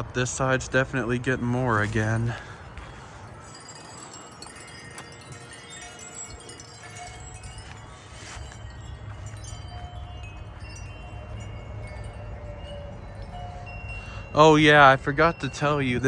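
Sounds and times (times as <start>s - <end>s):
low wind rumble: 0.0s - 16.0s
wind chimes ringing: 0.0s - 16.0s.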